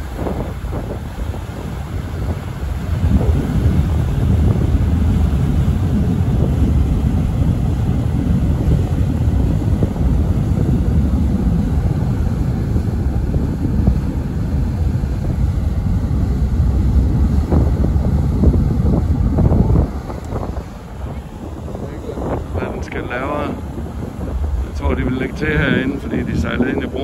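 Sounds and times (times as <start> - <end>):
ship engine rumble: 0.0 - 27.0
wind buffeting microphone: 0.0 - 27.0.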